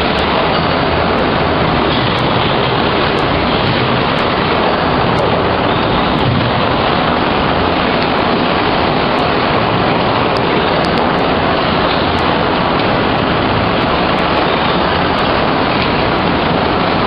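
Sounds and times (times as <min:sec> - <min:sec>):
factory machinery noise: 0:00.0 - 0:17.0.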